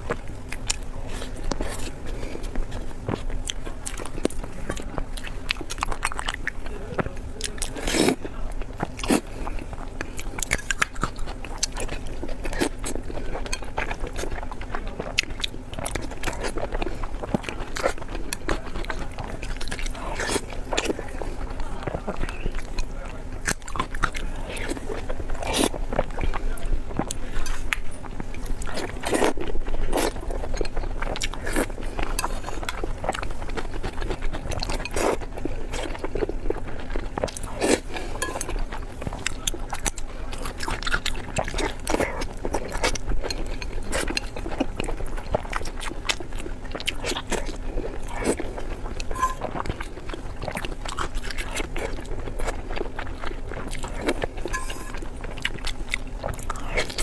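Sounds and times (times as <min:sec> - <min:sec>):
chewing with wet smacks: 0:00.0 - 0:57.0
faint steady hum: 0:00.0 - 0:57.0.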